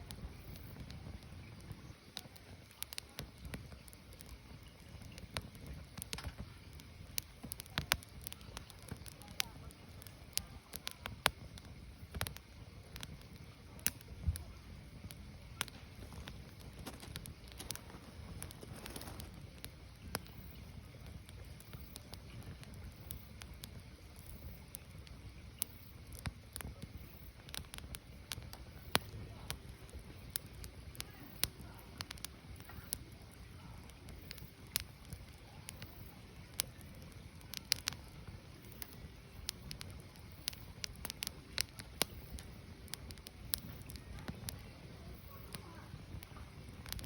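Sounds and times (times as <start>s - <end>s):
fire rumbling: 0.0s - 47.0s
firewood crackling and popping: 0.0s - 47.0s.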